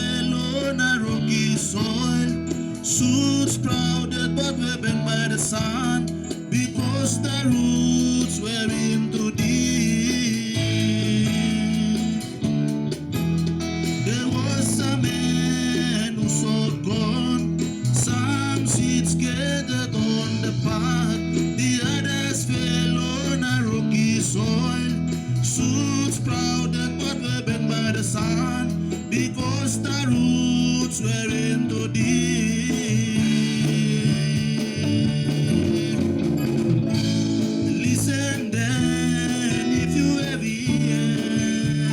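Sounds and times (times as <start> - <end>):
singing voices: 0.0 - 12.7, 13.9 - 41.9
bass line: 0.0 - 41.9
guitar: 0.0 - 41.9.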